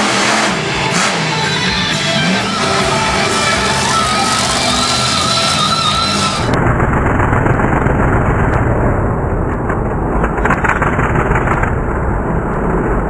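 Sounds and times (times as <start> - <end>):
monster truck engine rumbling: 0.0 - 13.0.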